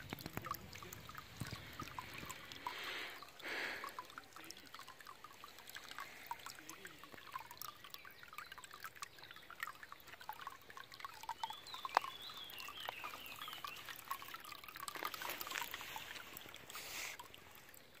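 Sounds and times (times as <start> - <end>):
water drips and splashes: 0.0 - 18.0
water trickling into basin: 0.0 - 18.0.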